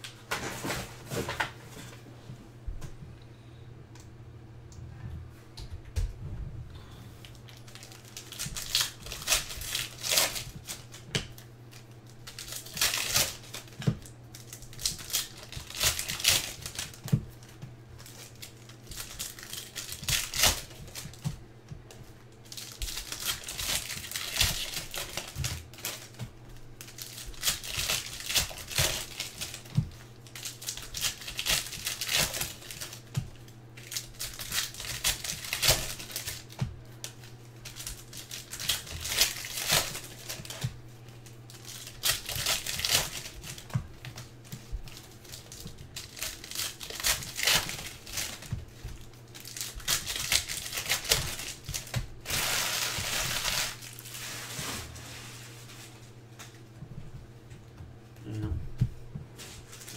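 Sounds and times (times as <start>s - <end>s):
foil wrappers tearing and crinkling: 7.2s - 56.6s, 59.4s - 59.9s.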